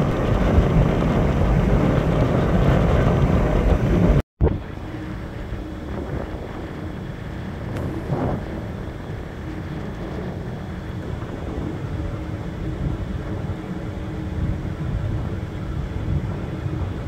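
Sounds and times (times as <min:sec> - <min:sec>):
faint hum: 0:00.0 - 0:17.0
low rumble: 0:00.0 - 0:17.0.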